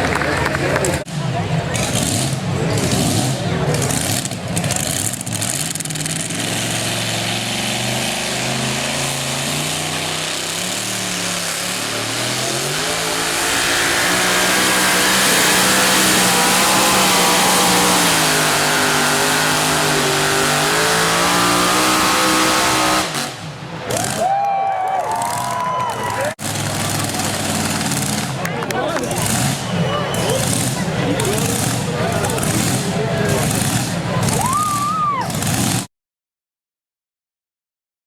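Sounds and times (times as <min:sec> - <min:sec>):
truck engine running under load: 0:00.0 - 0:24.2, 0:25.2 - 0:35.9.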